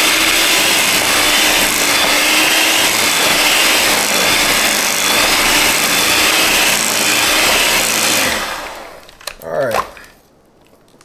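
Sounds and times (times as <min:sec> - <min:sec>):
electric hand mixer whirring: 0:00.0 - 0:09.2.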